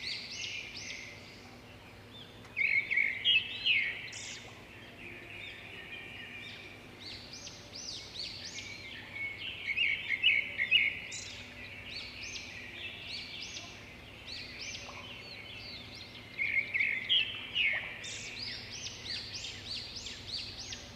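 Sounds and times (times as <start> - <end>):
songbirds singing and chirping: 0.0 - 20.9.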